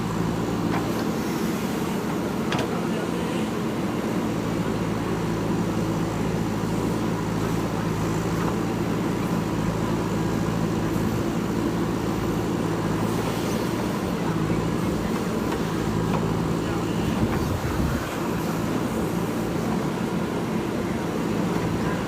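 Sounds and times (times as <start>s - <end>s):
backhoe loader diesel engine running: 0.0s - 22.0s.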